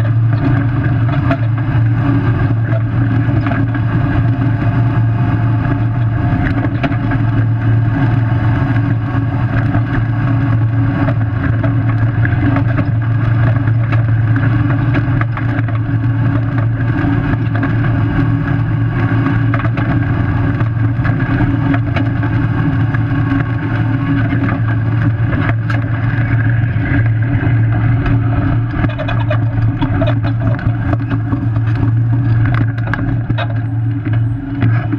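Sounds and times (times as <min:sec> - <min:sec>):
tyre and road noise: 0:00.0 - 0:34.9
vehicle drivetrain and engine drone: 0:00.0 - 0:34.9.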